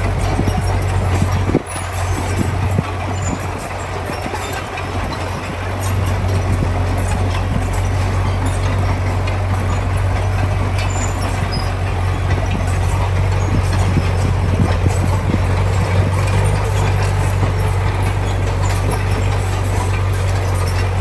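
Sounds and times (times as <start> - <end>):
heavy diesel engine droning: 0.0 - 21.0
machinery rattling and clanking: 0.0 - 21.0.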